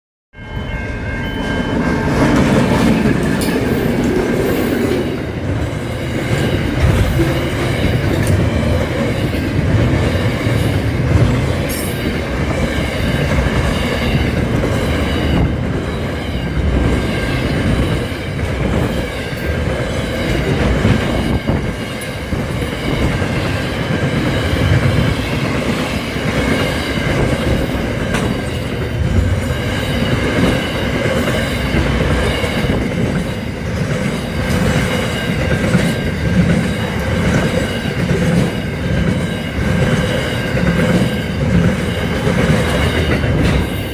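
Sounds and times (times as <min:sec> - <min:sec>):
freight train rumbling: 0:00.4 - 0:43.9.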